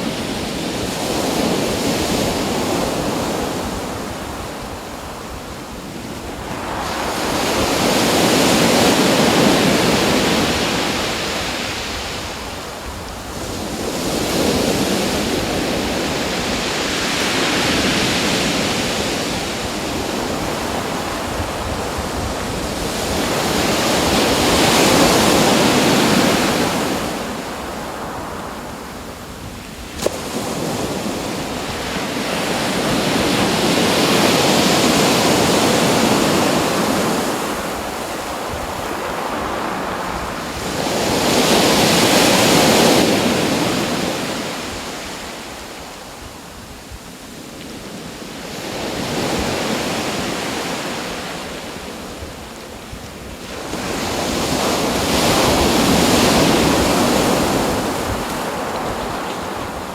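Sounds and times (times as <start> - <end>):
waves washing in: 0.0 - 59.9.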